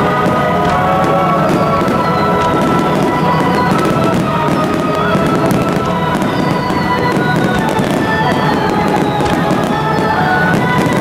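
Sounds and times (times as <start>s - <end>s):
fireworks bursting with sharp cracks: 0.0s - 11.0s
music playing: 0.0s - 11.0s.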